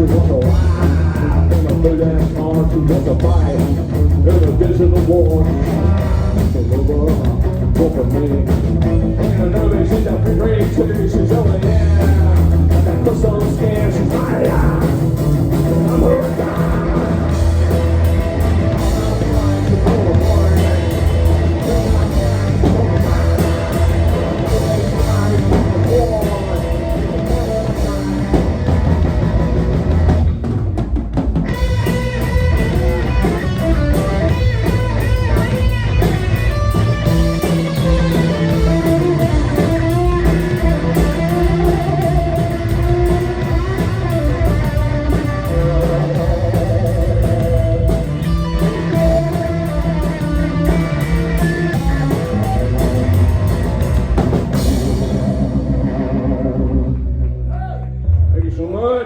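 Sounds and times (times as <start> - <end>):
electric guitar: 0.0 - 58.4
bass guitar: 0.0 - 59.0
drum kit: 0.0 - 59.0.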